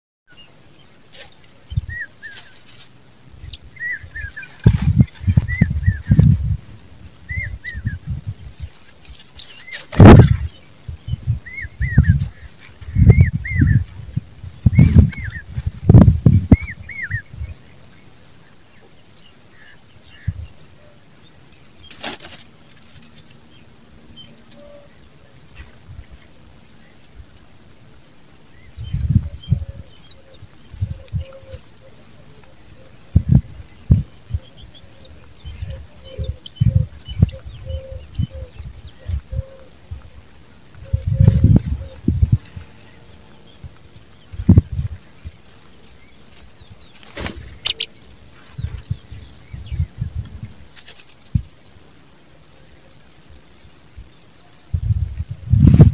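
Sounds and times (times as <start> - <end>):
nestlings begging chirps: 3.4 - 20.3, 22.7 - 49.9, 54.5 - 55.9.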